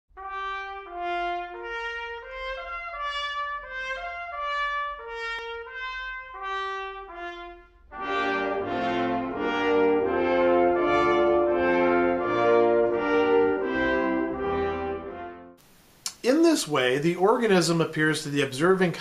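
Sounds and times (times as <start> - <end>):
brass chords: 0.1 - 15.6
solo brass melody: 0.1 - 15.6.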